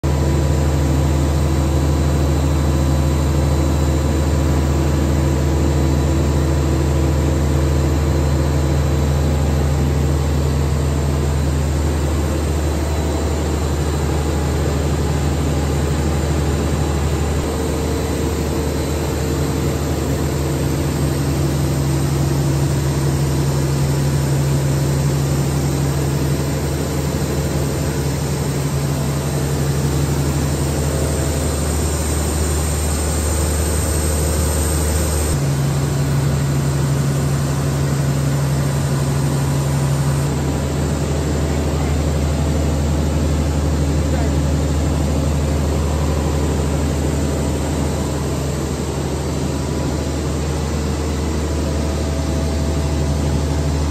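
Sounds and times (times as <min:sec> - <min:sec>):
machine hum with low drone: 0:00.0 - 0:53.9.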